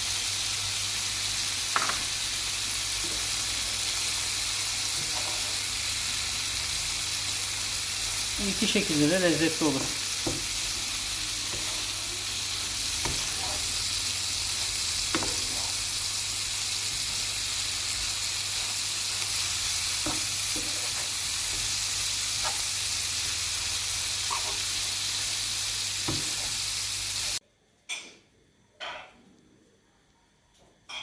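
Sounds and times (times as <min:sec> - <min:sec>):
food sizzling in a pan: 0:00.0 - 0:27.4.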